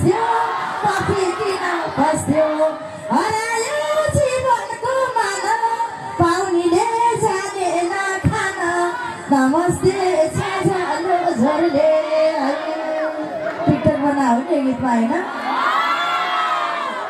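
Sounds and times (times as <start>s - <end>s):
woman singing into a microphone: 0.0s - 15.2s.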